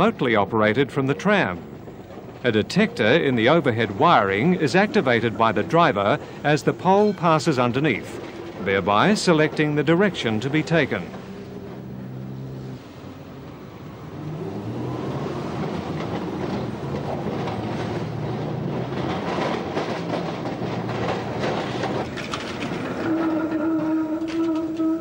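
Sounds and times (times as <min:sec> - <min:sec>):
tram rumbling: 0:00.0 - 0:25.0
wheels clattering over rail joints: 0:00.0 - 0:25.0.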